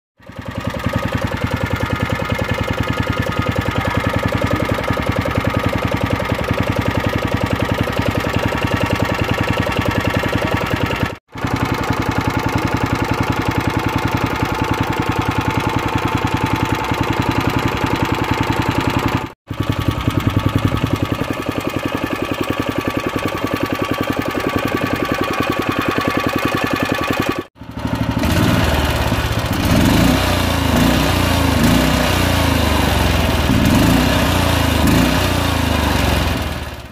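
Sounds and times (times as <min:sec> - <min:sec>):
small engine running: 0:00.2 - 0:36.9.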